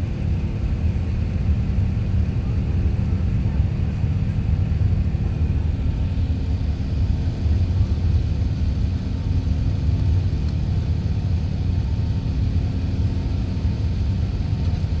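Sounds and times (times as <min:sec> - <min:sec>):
jet engines rumbling at takeoff: 0:00.0 - 0:15.0.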